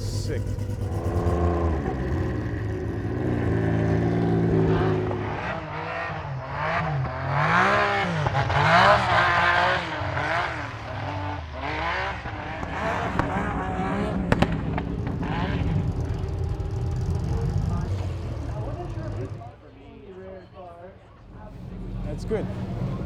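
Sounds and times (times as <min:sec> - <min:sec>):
race car engine idling and revving: 0:00.0 - 0:23.0.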